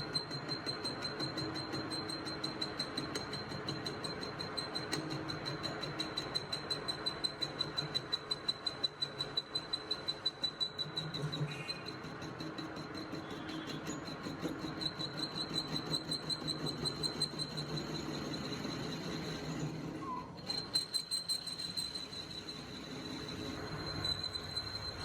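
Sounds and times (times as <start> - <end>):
workshop machine whine and hum: 0.0 - 25.0.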